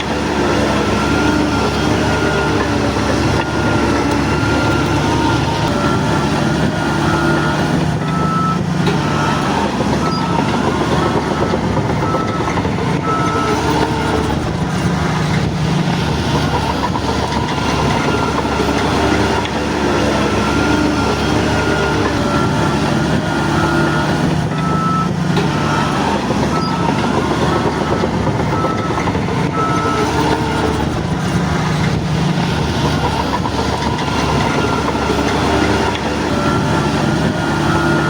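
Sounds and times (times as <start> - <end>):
heavy diesel engine running: 0.0 - 38.0
reversing alarm beeping: 0.0 - 38.0.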